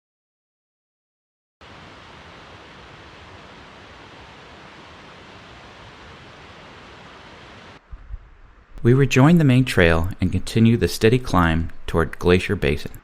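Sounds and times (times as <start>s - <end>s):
steady rushing noise: 1.6s - 13.0s.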